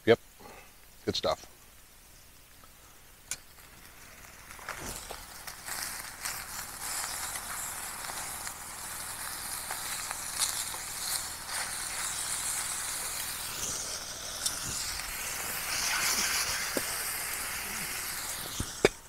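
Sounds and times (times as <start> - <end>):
steak sizzling over campfire: 2.1 - 19.0
fire pops and crackles: 2.6 - 19.0.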